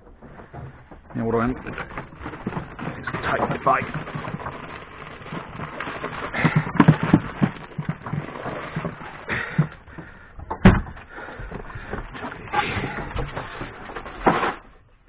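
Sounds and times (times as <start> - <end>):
knocking on plastic ice box: 0.1 - 14.4.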